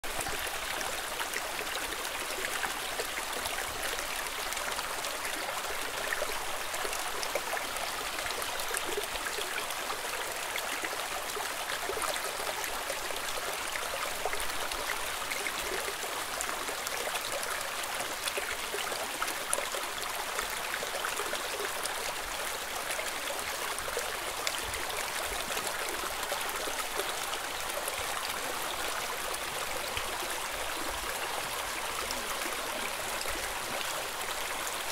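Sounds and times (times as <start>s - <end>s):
small stream trickling over stones: 0.0s - 34.9s.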